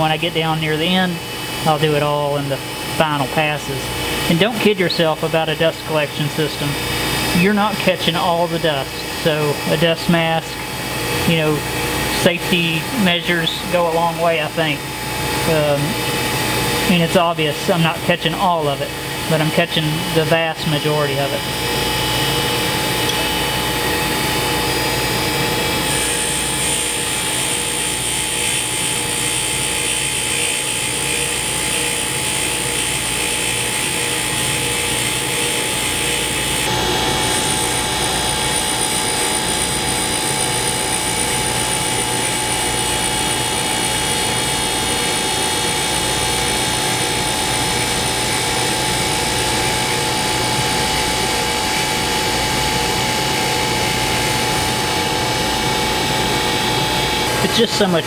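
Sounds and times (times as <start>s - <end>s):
high whine: 0.0s - 58.0s
vacuum dust collector: 0.0s - 58.0s.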